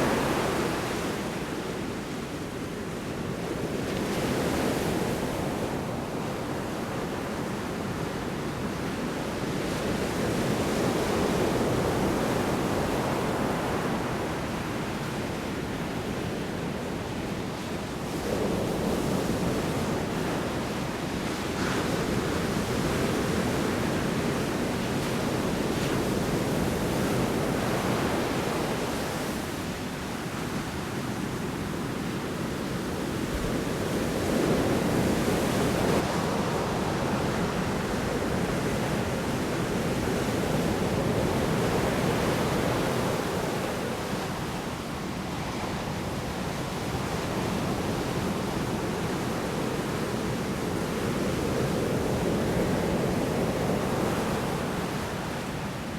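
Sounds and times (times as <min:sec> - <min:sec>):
storm waves breaking on shore: 0:00.0 - 0:55.9.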